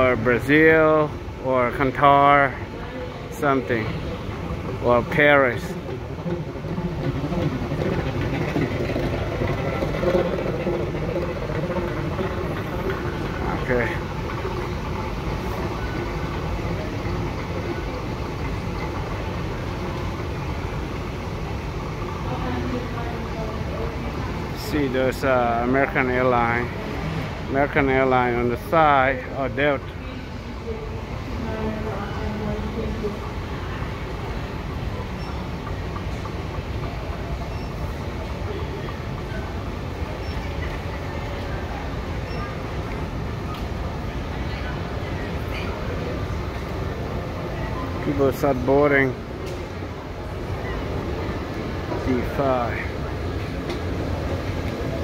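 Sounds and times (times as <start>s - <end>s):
moving walkway rumbling: 0.0s - 55.0s.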